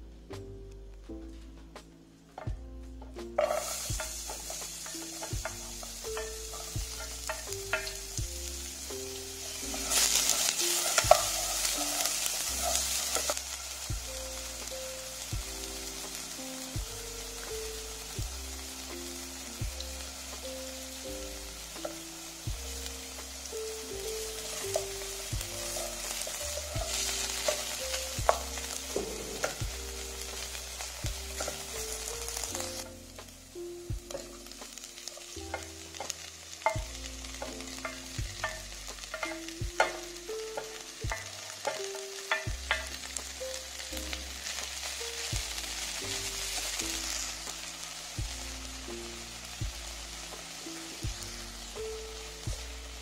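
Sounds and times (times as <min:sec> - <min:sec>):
soft instrumental music: 0:00.0 - 0:53.0
onion sizzling in oil: 0:02.2 - 0:53.0.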